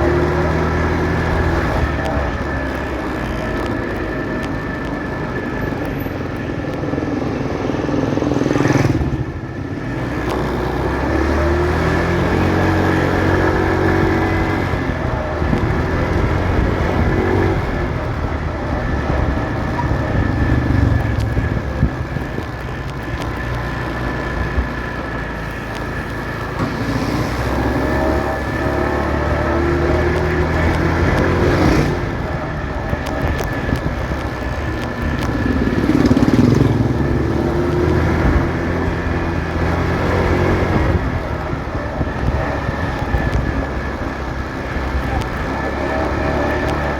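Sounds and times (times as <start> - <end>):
motorcycle engine running: 0.0 - 46.9
other vehicles passing: 0.0 - 46.9
road noise: 0.0 - 46.9.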